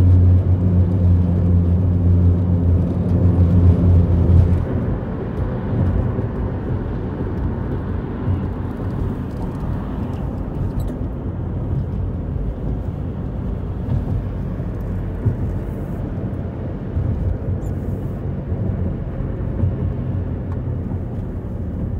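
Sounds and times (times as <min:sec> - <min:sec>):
car interior road rumble: 0:00.0 - 0:21.9.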